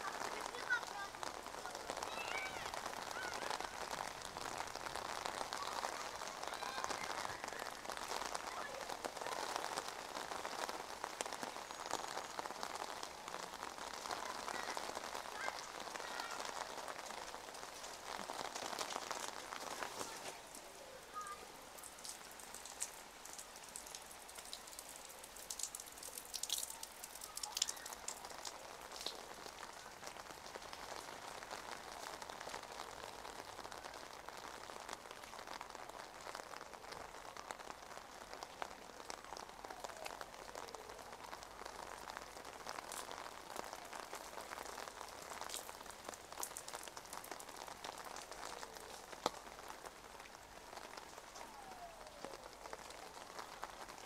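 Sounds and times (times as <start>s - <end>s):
rain on umbrella: 0.0s - 54.0s
rain pattering on pavement: 0.0s - 54.0s
sharp water drips: 0.0s - 54.0s.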